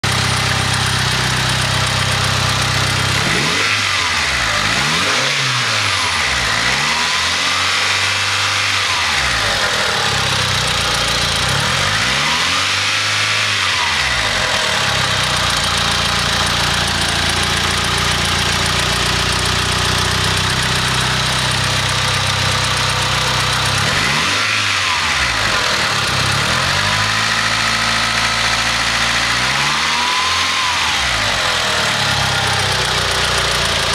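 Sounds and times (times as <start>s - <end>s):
car engine idling and revving: 0.0s - 33.9s
odd engine noise: 0.0s - 33.9s.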